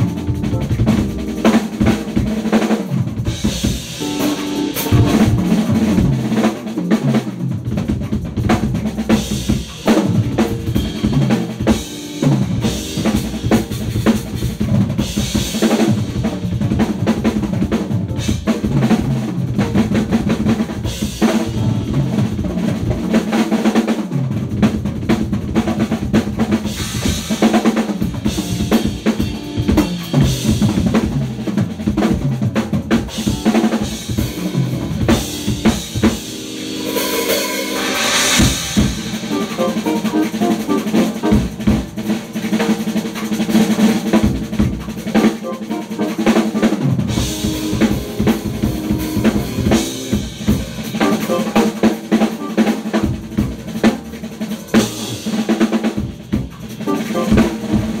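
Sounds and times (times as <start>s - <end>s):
drum kit playing: 0.0s - 58.0s.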